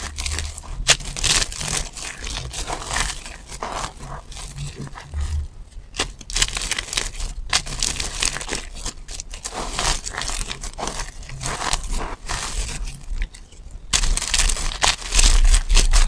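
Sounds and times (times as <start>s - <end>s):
soap shavings crunching between hands: 0.0s - 16.0s.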